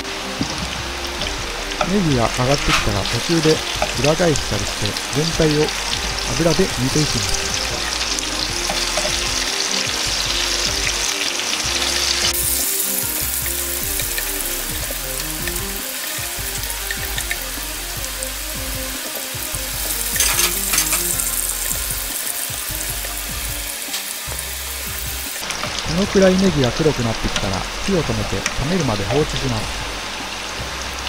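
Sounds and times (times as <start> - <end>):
oil sizzling in a pan: 0.0 - 31.0
soft background music: 0.0 - 31.0.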